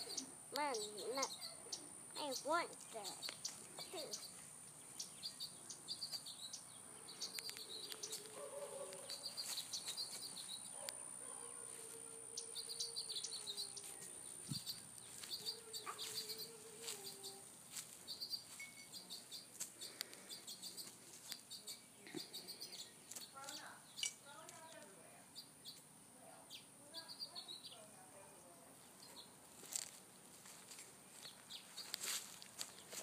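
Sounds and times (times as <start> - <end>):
small songbirds chirping: 0.0 - 28.0, 28.8 - 33.0.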